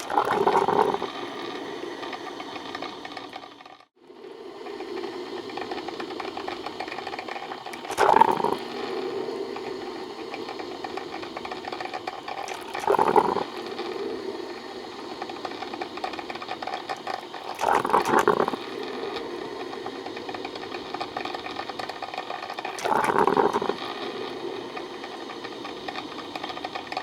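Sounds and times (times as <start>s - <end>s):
coffee machine pump buzzing: 0.0s - 27.0s.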